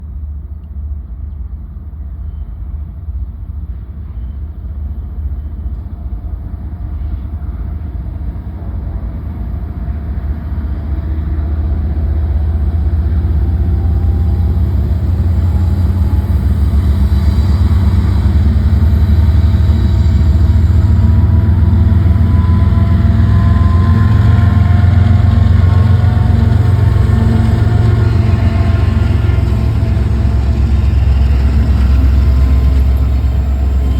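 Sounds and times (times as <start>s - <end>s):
diesel locomotive engine rumble: 0.0s - 33.9s.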